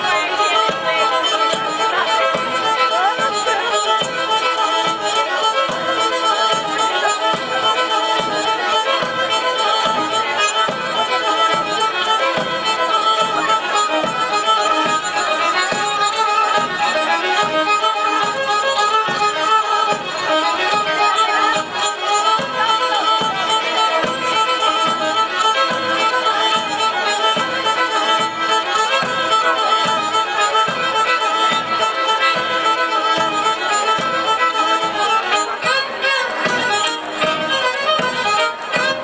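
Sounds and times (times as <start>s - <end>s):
steady drum beat: 0.0s - 39.0s.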